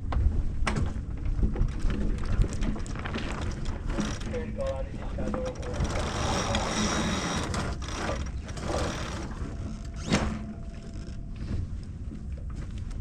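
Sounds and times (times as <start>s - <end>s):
sailboat deck gear clicking: 0.1s - 11.3s.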